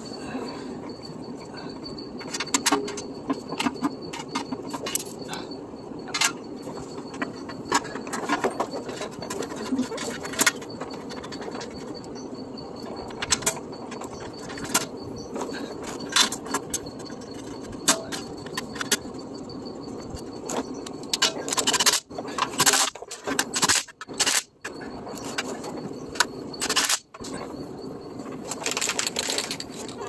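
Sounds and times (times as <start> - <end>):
metal clinks and scrapes: 1.9 - 30.0.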